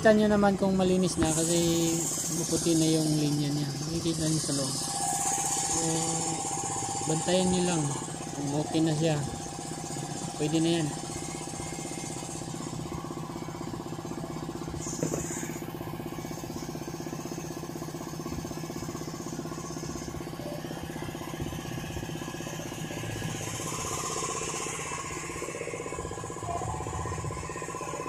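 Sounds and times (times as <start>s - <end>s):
motor running steadily: 0.0s - 28.0s.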